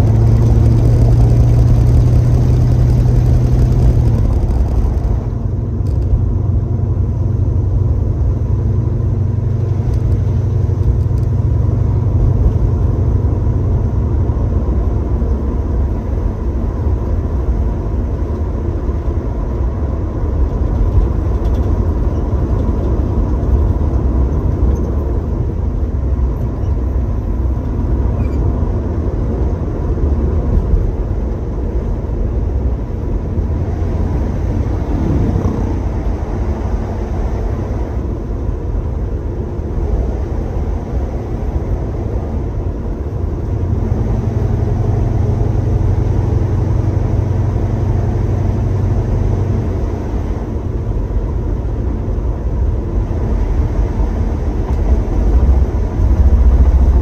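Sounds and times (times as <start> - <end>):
car engine running: 0.0 - 57.0
road and tyre noise: 0.0 - 57.0.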